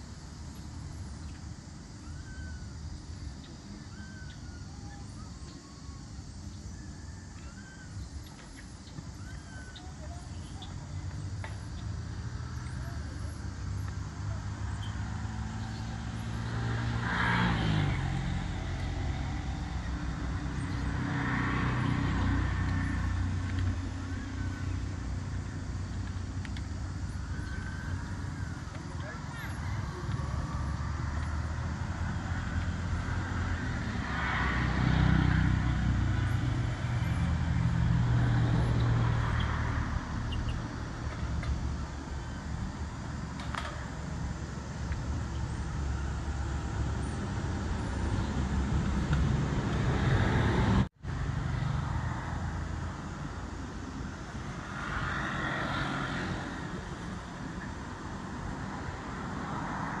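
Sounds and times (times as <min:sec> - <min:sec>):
road traffic passing: 0:00.0 - 1:00.0.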